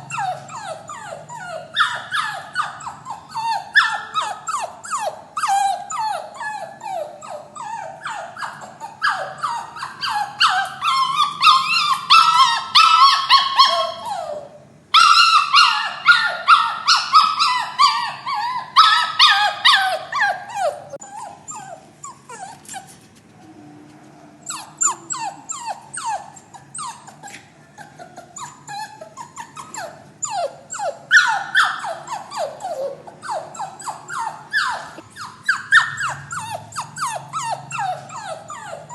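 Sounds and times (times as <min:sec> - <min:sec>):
puppy crying and whining: 0:00.0 - 0:23.1, 0:24.4 - 0:38.9.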